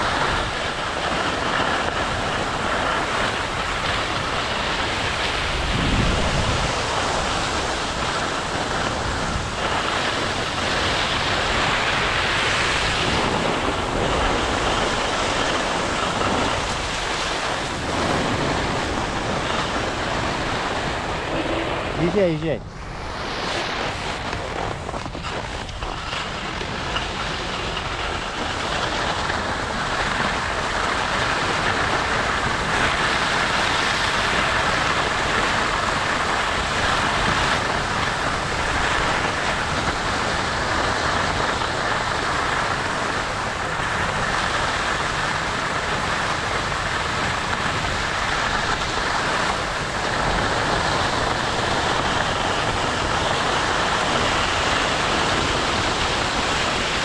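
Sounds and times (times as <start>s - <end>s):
skis scraping on snow: 0.0s - 57.0s
wind rushing over microphone: 0.0s - 57.0s.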